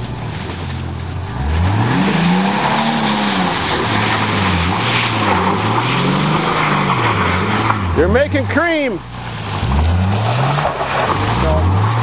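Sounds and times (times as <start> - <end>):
car engine revving: 0.0 - 12.0
wheels spinning in mud: 0.0 - 12.0.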